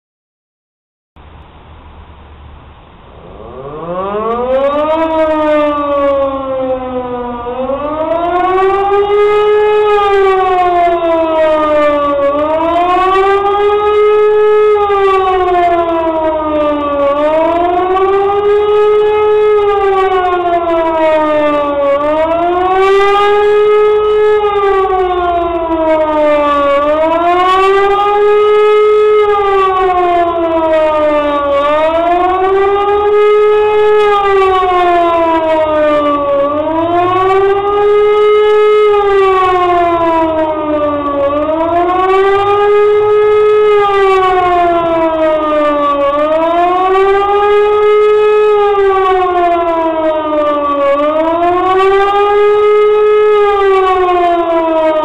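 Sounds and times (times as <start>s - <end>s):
siren wailing: 3.1s - 55.0s.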